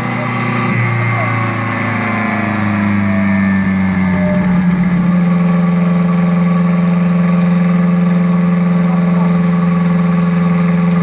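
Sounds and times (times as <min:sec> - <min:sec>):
car engine on dynamometer: 0:00.0 - 0:11.0.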